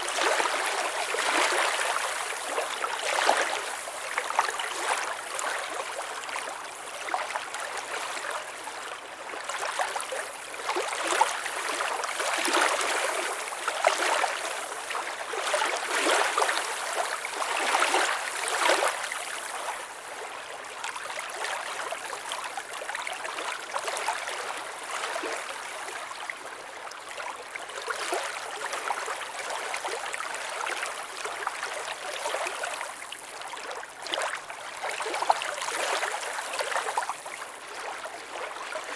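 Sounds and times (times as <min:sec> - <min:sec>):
water trickling and splashing: 0:00.0 - 0:22.6, 0:27.8 - 0:38.9.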